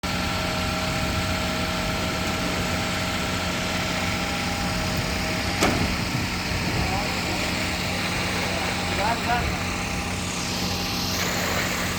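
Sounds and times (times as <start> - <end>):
construction machinery engine: 0.0 - 11.9
thin steady whine tones: 0.1 - 11.9.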